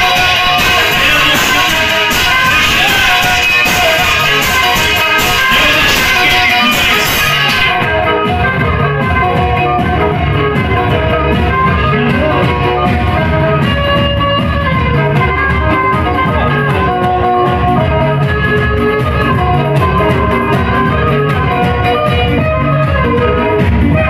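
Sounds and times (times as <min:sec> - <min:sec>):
fiddle melody: 0:00.0 - 0:24.0
folk band accompaniment with steady beat: 0:00.0 - 0:24.0.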